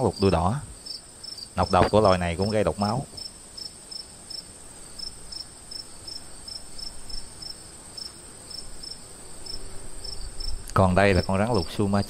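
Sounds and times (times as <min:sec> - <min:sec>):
high-pitched insect trill: 0:00.0 - 0:12.0
insect chirps: 0:00.0 - 0:12.0.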